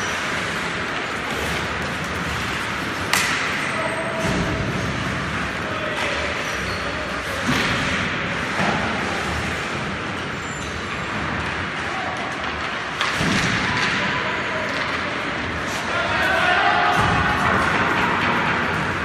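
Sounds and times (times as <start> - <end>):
skates scraping on ice: 0.0 - 3.8, 4.4 - 19.0.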